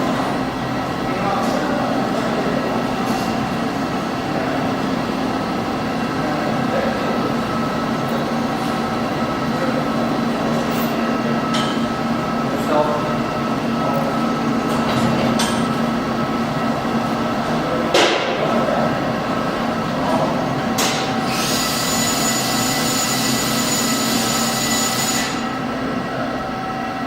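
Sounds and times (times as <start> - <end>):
industrial machinery hum: 0.0 - 27.0.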